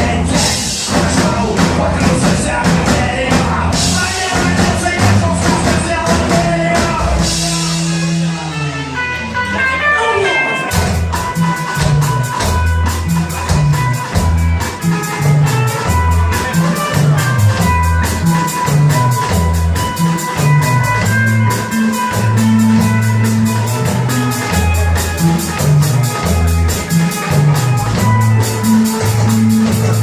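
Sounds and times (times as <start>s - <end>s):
drum kit beat: 0.0s - 8.6s, 9.9s - 30.0s
bass guitar line: 0.0s - 30.0s
guitar: 0.0s - 30.0s.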